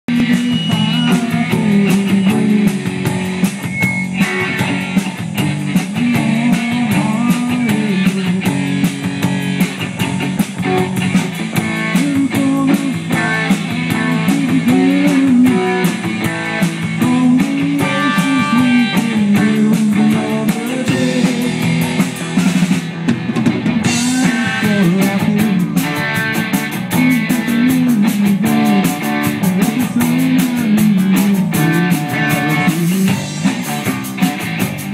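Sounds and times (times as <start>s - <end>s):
electric bass: 0.0s - 34.9s
electric guitar: 0.0s - 34.9s
drum kit with cymbals: 0.1s - 34.9s.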